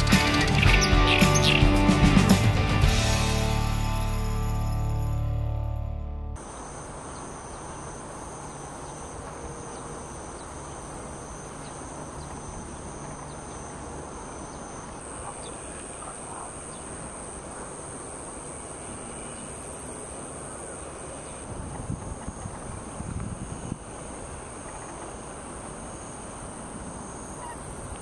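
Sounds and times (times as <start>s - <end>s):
insects calling: 0.0s - 1.7s, 6.4s - 28.0s.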